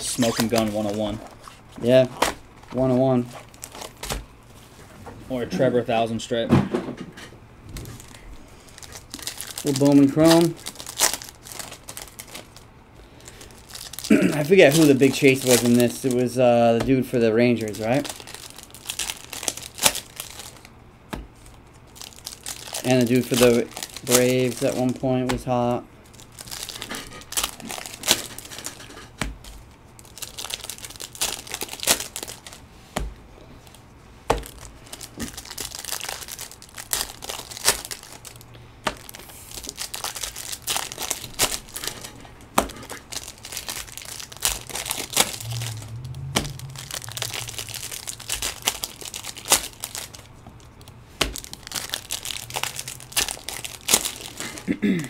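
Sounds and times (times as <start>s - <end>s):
foil wrappers crinkling and tearing: 0.0s - 4.2s, 7.9s - 32.7s, 33.6s - 54.7s.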